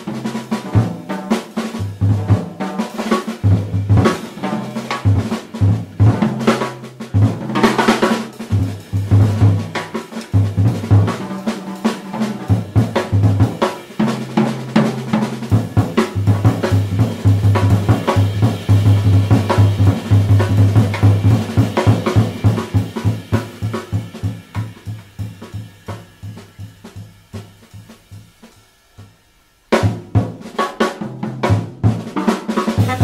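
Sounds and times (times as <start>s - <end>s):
jazz drum solo: 0.0s - 33.0s.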